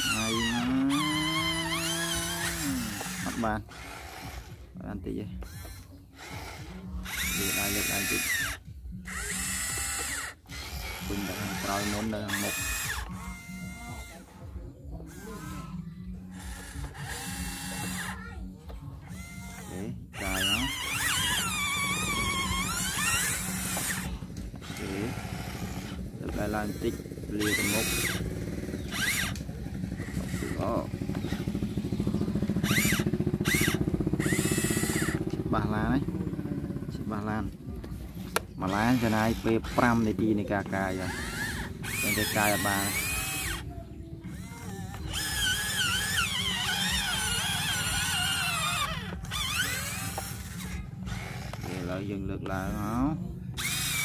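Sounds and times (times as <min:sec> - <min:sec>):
small gear motors whirring: 0:00.0 - 0:54.0.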